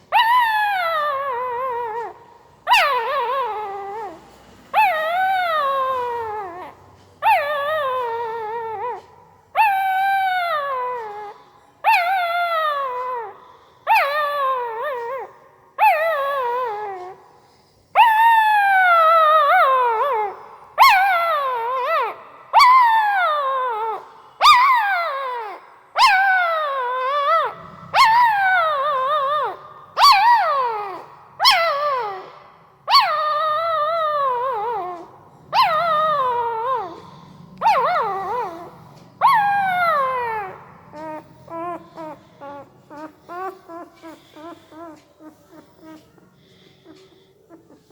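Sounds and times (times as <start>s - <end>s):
puppy whining: 0.0s - 47.9s.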